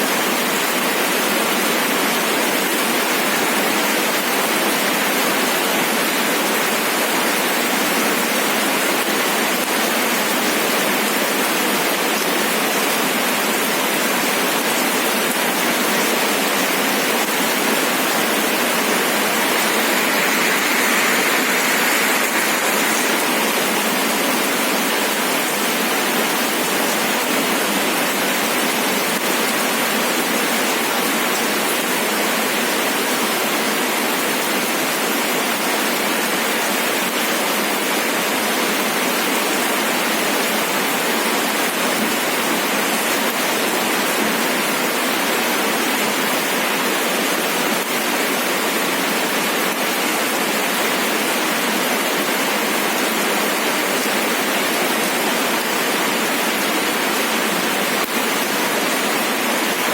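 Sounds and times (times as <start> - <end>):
steady rain hiss: 0.1 - 59.9.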